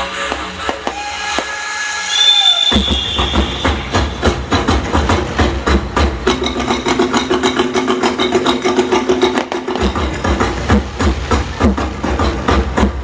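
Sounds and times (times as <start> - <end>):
fireworks bangs and crackles: 0.2 - 1.6, 2.6 - 13.0.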